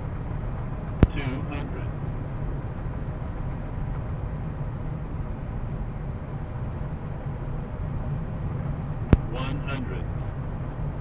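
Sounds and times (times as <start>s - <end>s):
cockpit low rumble: 0.0s - 11.0s.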